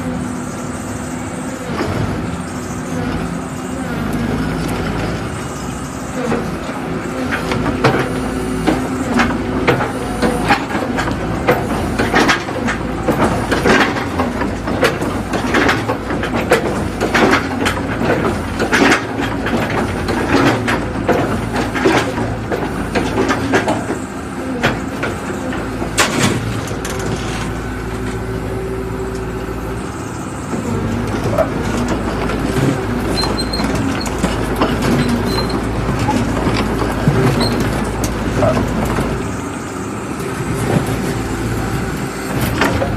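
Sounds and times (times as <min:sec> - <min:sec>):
excavator diesel engine humming: 0:00.0 - 0:42.9.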